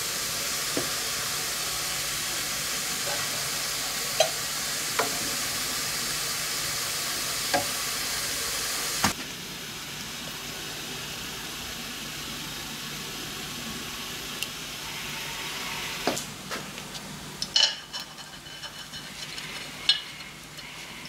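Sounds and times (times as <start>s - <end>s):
chemical bath fizzing hiss: 0.0s - 17.5s.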